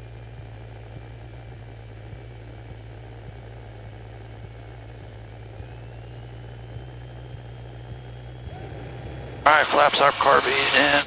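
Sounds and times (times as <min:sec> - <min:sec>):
airplane engine and propeller idling: 0:00.0 - 0:11.0.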